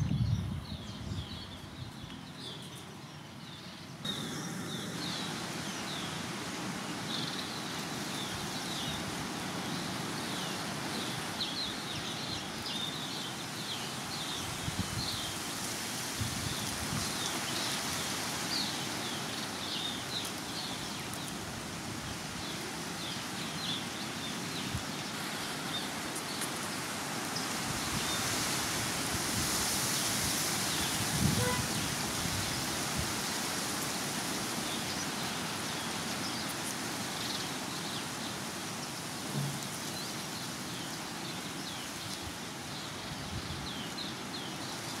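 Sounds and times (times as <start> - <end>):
small birds chirping: 0.0 - 28.6, 29.8 - 45.0
steady outdoor hiss: 0.0 - 45.0.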